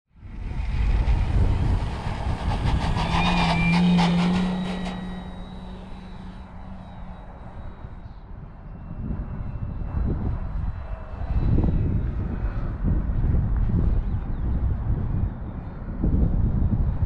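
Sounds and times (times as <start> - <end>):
low rumble: 0.1 - 17.0
model plane electric motor and propeller: 0.2 - 17.0.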